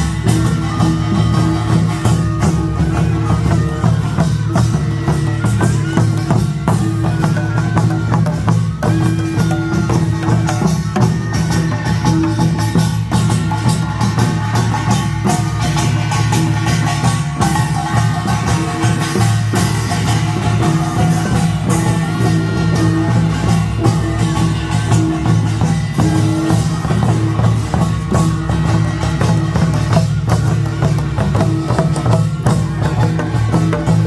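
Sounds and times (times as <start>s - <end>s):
barrel drums: 0.0s - 34.0s
hourglass drums: 0.0s - 34.0s.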